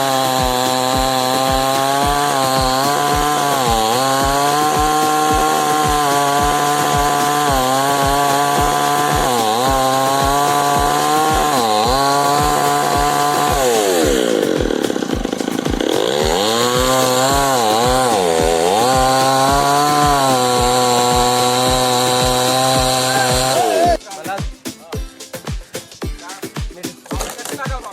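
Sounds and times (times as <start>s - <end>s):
chainsaw cutting wood: 0.0s - 24.0s, 25.4s - 27.9s.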